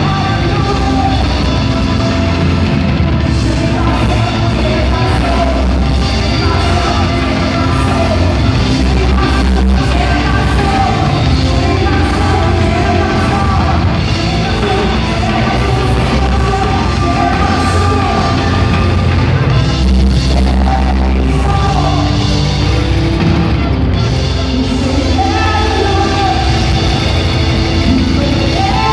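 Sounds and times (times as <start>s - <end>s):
loud rock music with singer: 0.0s - 28.9s.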